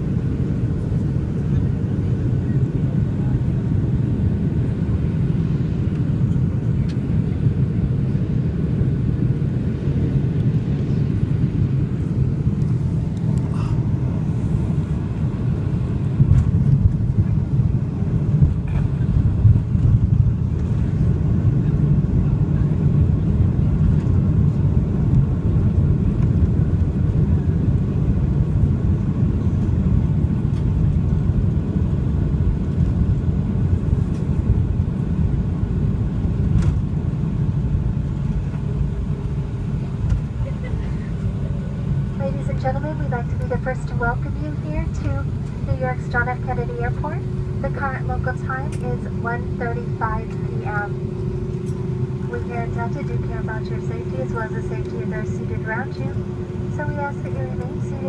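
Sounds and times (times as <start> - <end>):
low rumble of jet engines: 0.0 - 58.0.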